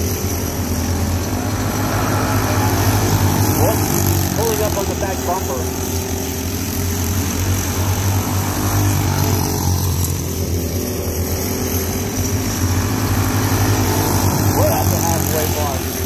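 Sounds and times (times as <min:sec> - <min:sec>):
go-kart engines buzzing: 0:00.0 - 0:16.0.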